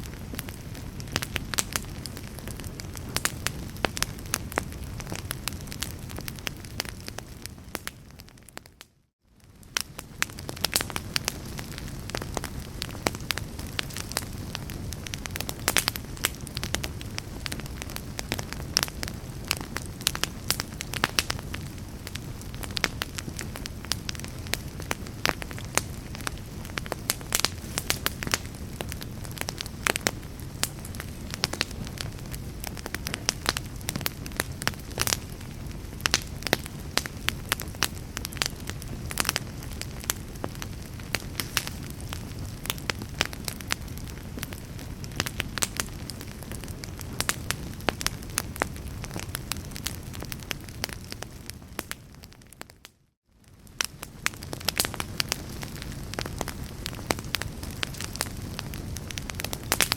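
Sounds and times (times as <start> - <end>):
fire low rumble: 0.0 - 59.9
wood fire crackling and popping: 0.0 - 59.9.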